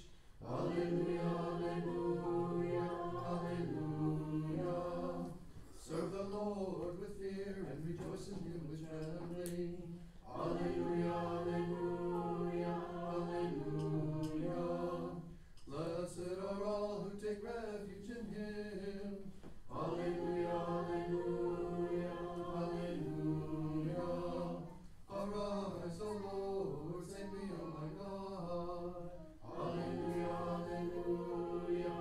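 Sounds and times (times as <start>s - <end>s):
choir singing a cappella chant: 0.0s - 32.0s.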